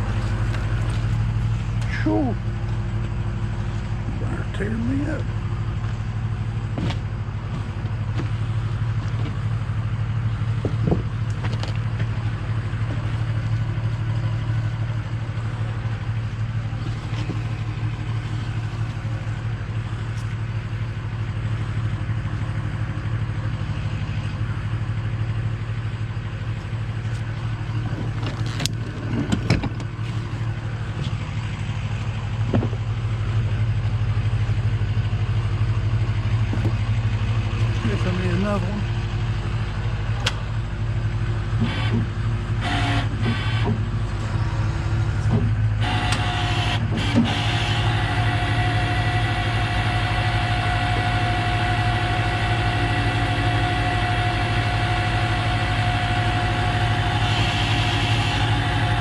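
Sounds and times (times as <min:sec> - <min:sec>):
tow truck engine running: 0:00.0 - 0:59.0.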